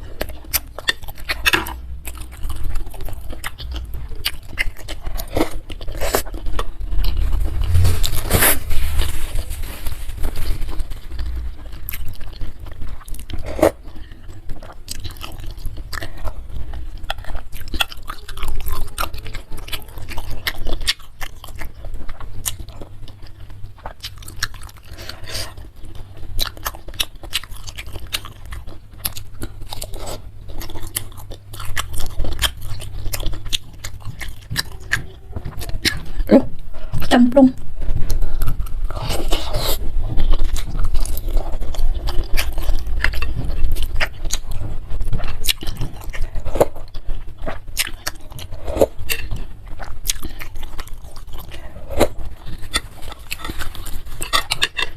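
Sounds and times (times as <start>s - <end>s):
close chewing and crunching: 0.0s - 54.9s.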